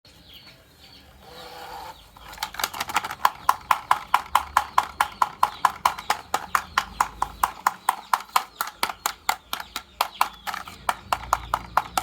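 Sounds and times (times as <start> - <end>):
marbles clacking on wooden track: 2.2 - 12.0.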